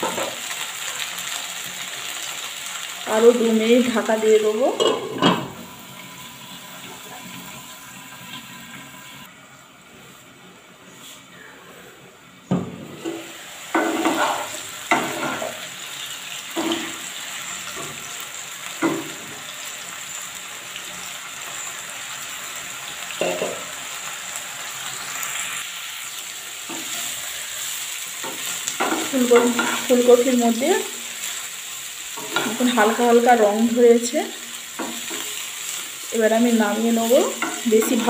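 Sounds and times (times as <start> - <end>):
vegetables sizzling in oil: 0.0 - 10.2, 12.3 - 38.0.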